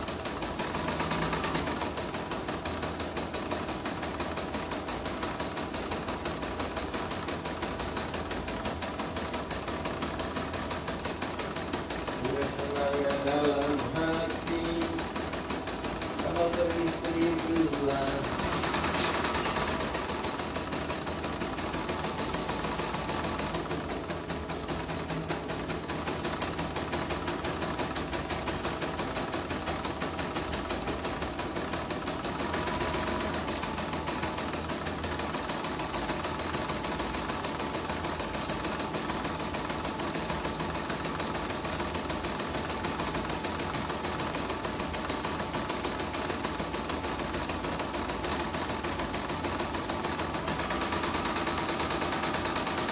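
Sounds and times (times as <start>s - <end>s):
embroidery machine needle stitching: 0.0s - 52.9s.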